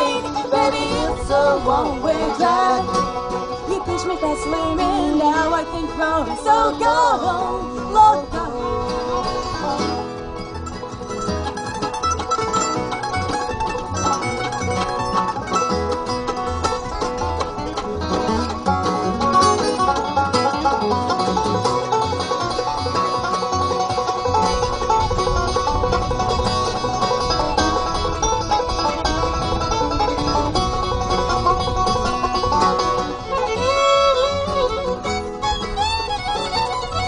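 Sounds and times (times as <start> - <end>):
banjo picking: 0.0 - 37.0
bluegrass string band playing: 0.0 - 37.0
sliding fiddle notes: 0.0 - 37.0.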